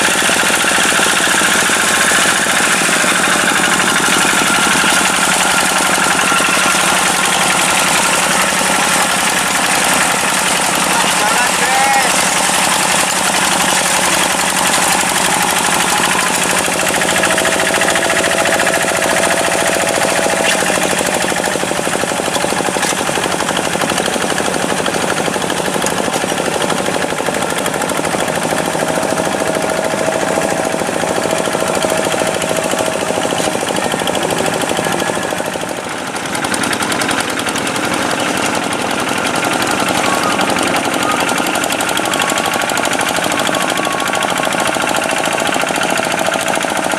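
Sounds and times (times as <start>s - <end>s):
tractor diesel engine chattering: 0.0s - 46.9s.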